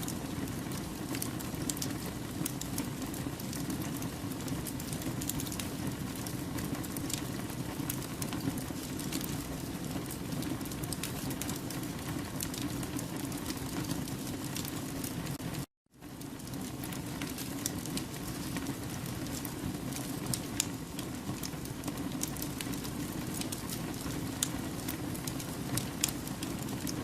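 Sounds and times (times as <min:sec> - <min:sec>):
crackles and pops of burning logs: 0:00.0 - 0:27.0
low rush of flames: 0:00.0 - 0:27.0.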